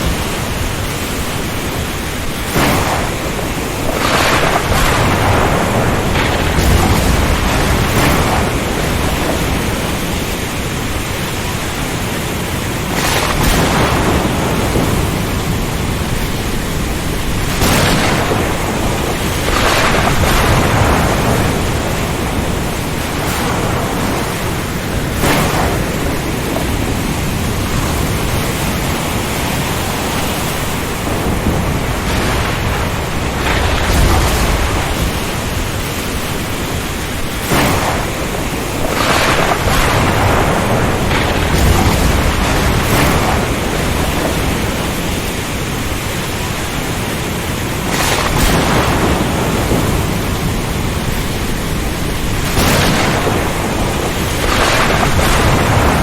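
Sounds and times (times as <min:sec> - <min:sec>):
low rolls of thunder: 0:00.0 - 0:47.1, 0:47.7 - 0:56.0
heavy rain: 0:00.0 - 0:56.0
surf: 0:00.0 - 0:56.0
wind: 0:00.0 - 0:56.0.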